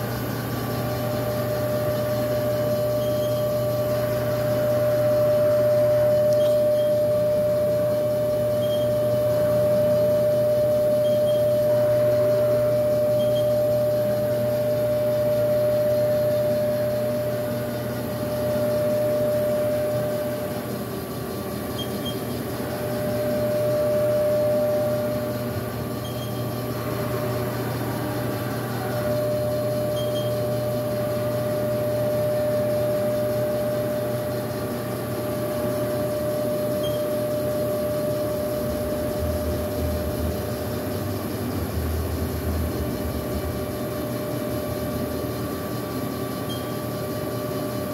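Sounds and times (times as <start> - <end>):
deeper machine hum: 0.0 - 47.9
lathe humming with high whine: 0.0 - 47.9.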